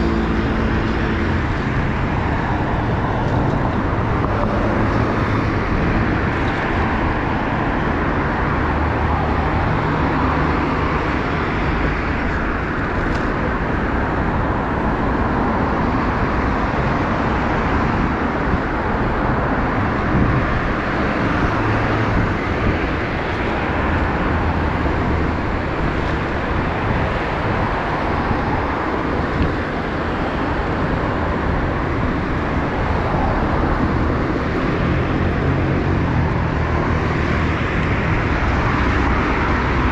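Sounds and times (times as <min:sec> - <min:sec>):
cars driving on city road: 0:00.0 - 0:39.9.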